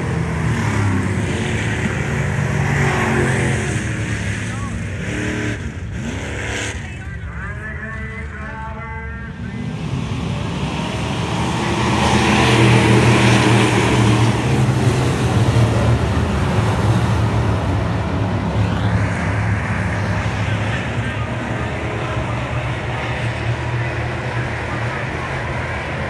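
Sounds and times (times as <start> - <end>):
stock-car engine running: 0.0 - 26.0.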